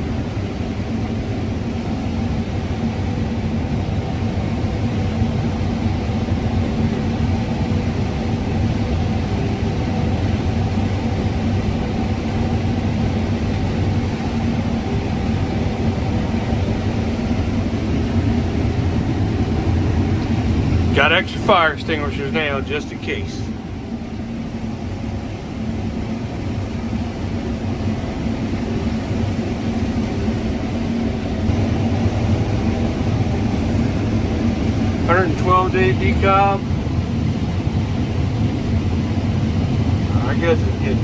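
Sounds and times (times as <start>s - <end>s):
combine harvester engine drone: 0.0s - 41.0s
faint steady tones: 0.0s - 41.0s.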